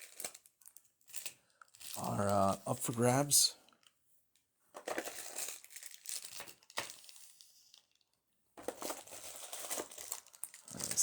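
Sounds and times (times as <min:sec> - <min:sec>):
plastic crinkling and rustling: 0:00.0 - 0:02.6, 0:03.7 - 0:11.0.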